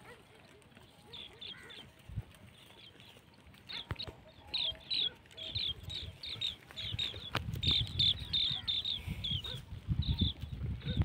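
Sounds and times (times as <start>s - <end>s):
goats rustling and crunching shrubs: 0.0s - 11.0s
small bird chirping: 0.8s - 11.0s.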